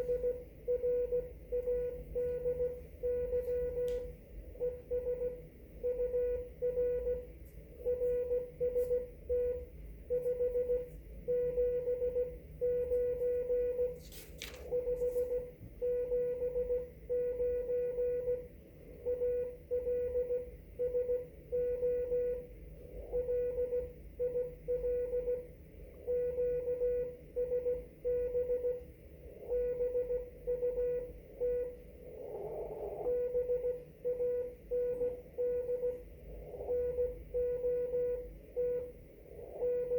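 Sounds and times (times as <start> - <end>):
low hum and hiss: 0.0 - 39.9
morse code tone: 0.0 - 39.9.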